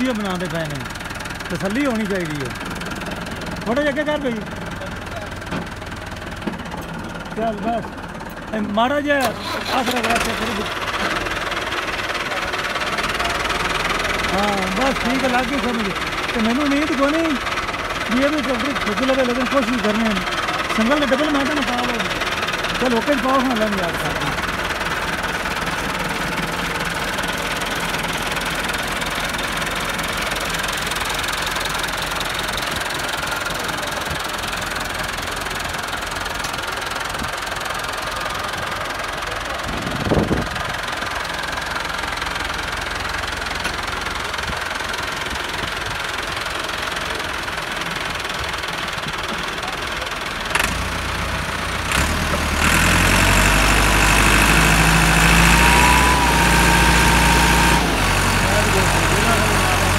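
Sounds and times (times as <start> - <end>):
deep engine straining: 0.0 - 59.9
tractor diesel engines running: 0.0 - 59.9.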